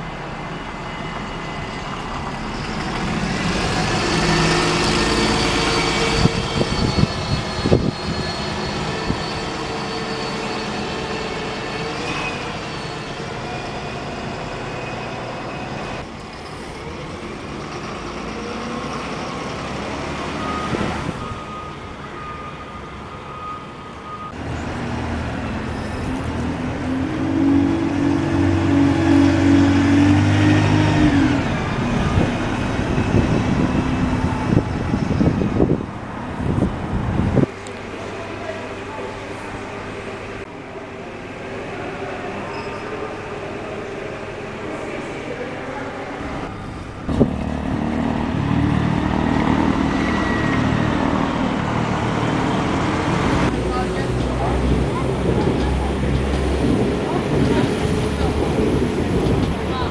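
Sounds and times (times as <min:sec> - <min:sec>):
bus engine whining: 0:00.0 - 0:59.9
bus passing: 0:00.0 - 0:59.9.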